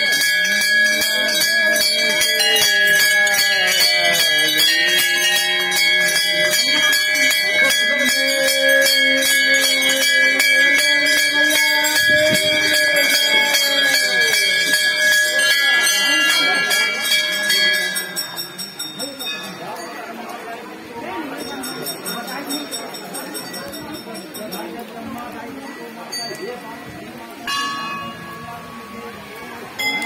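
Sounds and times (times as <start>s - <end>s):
brass bells ringing: 0.0s - 24.8s, 27.4s - 30.0s
crowd voices: 0.0s - 30.0s.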